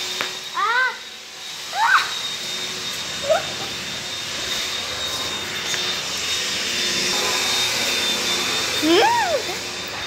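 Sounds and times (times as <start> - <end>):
appliance motor whooshing with whine: 0.0 - 10.0.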